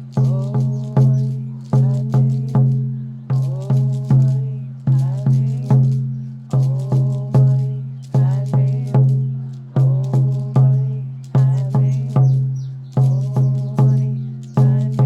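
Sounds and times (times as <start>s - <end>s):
hand drum booming: 0.2s - 15.0s.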